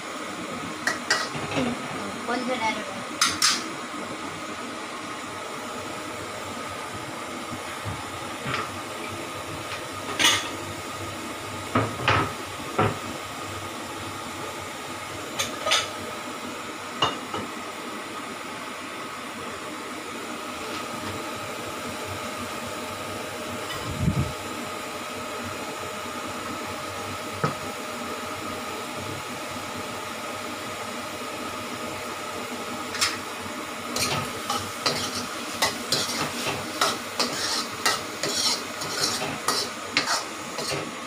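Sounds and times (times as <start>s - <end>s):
frying hiss: 0.0s - 17.5s, 20.2s - 41.0s.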